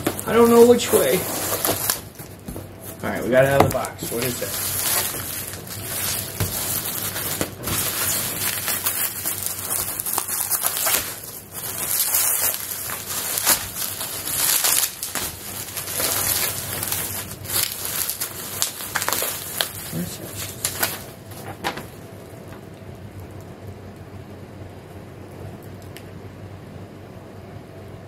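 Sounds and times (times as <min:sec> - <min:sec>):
bubble wrap crinkling: 0:00.0 - 0:24.0.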